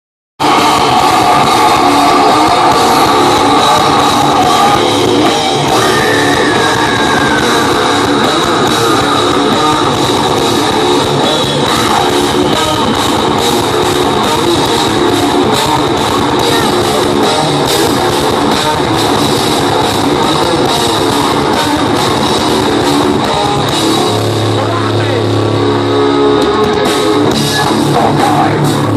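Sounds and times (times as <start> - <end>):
distorted electric guitars: 0.4 - 28.9
drum kit: 0.4 - 28.9.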